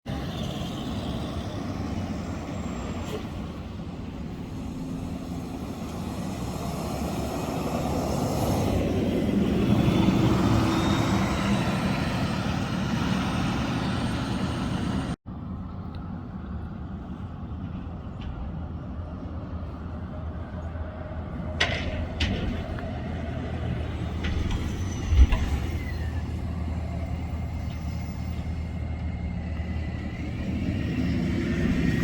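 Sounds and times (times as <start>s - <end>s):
traffic background: 0.0s - 32.0s
bus driving past: 0.1s - 32.0s.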